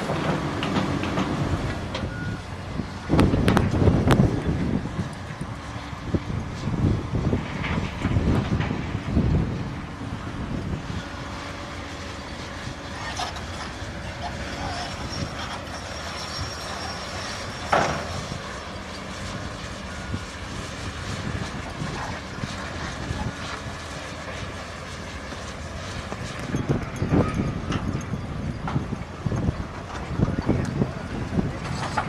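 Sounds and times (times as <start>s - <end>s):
heavy machinery rumbling: 0.0s - 32.0s.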